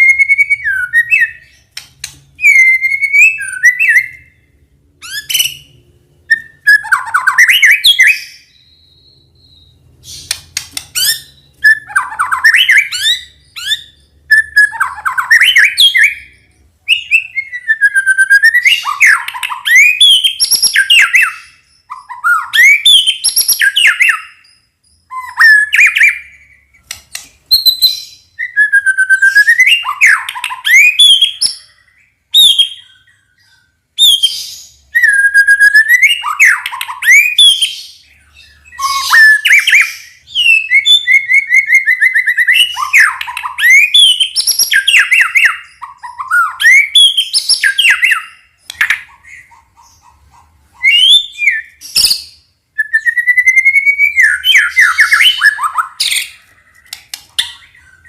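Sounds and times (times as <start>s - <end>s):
songbird whistling: 0.0s - 50.1s, 50.7s - 58.0s.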